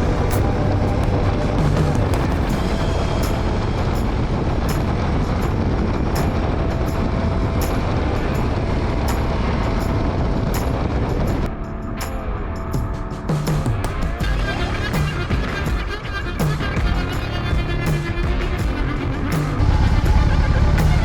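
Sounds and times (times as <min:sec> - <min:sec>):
motorcycle engine running: 0:00.0 - 0:11.5, 0:13.5 - 0:21.0
wind noise: 0:00.0 - 0:21.0.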